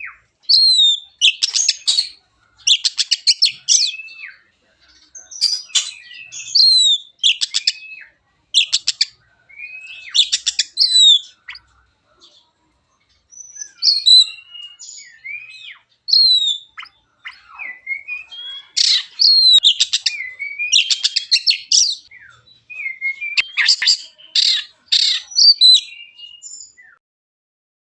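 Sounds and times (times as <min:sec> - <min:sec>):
bird singing whistled notes: 0:00.0 - 0:04.4, 0:05.2 - 0:11.6, 0:13.3 - 0:27.0.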